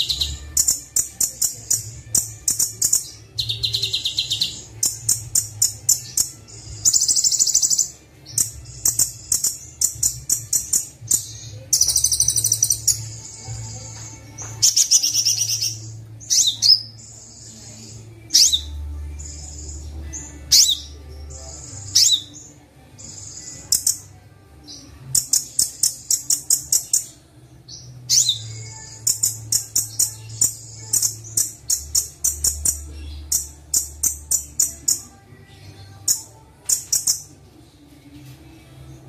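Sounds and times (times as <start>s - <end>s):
sunbird song with buzzy trills: 0.0s - 39.0s.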